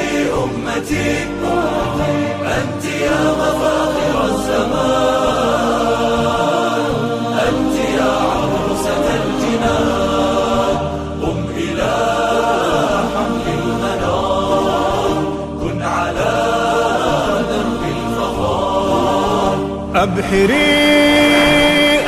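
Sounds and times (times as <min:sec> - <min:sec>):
low vocal drone: 0:00.0 - 0:22.0
male choir singing a cappella: 0:00.0 - 0:22.0.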